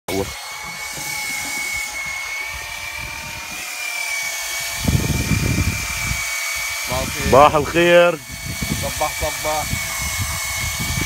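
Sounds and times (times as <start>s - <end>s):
fishing reel motor whining: 0.1s - 11.0s.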